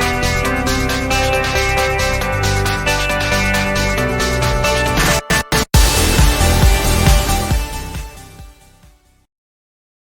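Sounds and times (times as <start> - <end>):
electronic music with bass beat: 0.0 - 8.9.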